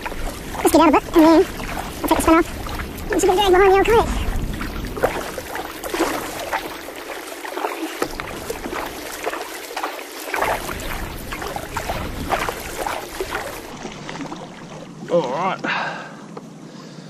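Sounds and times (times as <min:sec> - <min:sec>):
water splashing and dripping: 0:00.0 - 0:15.6
kayak paddle strokes: 0:00.0 - 0:16.5.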